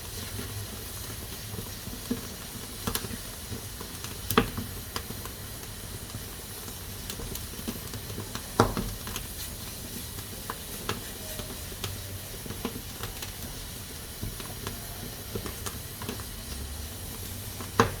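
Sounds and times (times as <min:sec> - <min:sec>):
pressure cooker steam hissing: 0:00.0 - 0:18.0.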